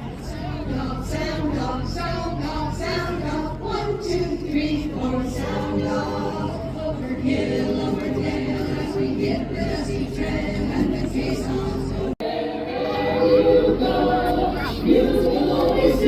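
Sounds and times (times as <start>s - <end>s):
choir singing: 0.0s - 16.0s
steady low hum: 0.0s - 16.0s.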